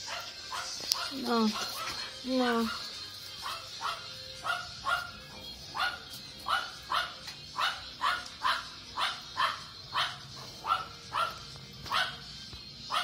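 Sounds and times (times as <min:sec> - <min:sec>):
small dog barking: 0:00.0 - 0:02.0, 0:02.6 - 0:13.0.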